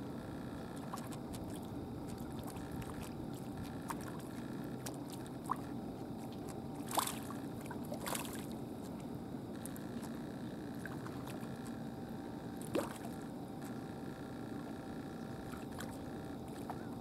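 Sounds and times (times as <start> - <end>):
lapping sea water: 0.4 - 17.0.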